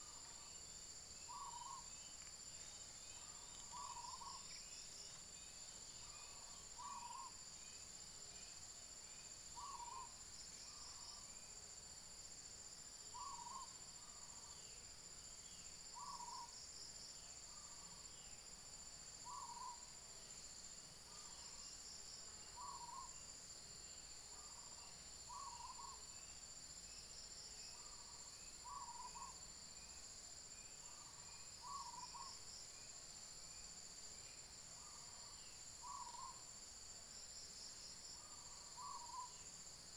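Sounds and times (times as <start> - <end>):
faint high buzz of insects: 0.0 - 39.9.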